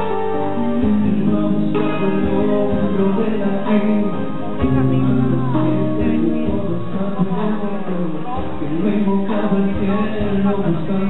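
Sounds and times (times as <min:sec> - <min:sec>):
acoustic guitar: 0:00.0 - 0:11.0
bass line: 0:00.0 - 0:11.0
man singing: 0:00.0 - 0:11.0.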